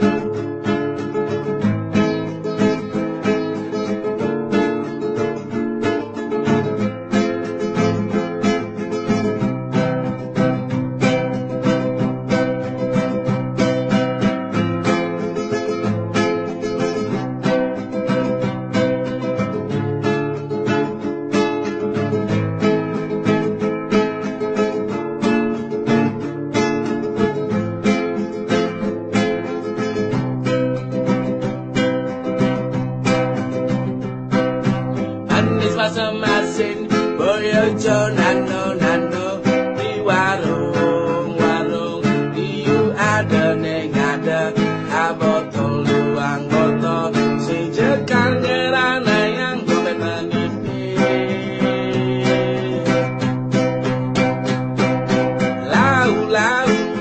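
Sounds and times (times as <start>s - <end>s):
acoustic guitar instrumental music: 0.0s - 57.0s.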